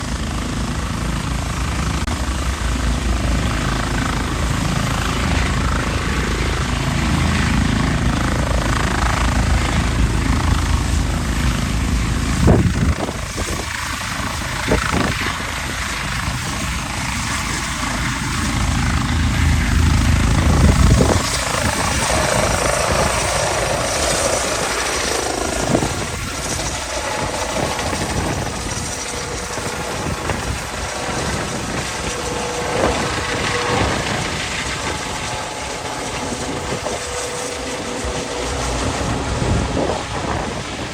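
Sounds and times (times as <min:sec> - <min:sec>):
helicopter flying past: 0:00.0 - 0:40.9.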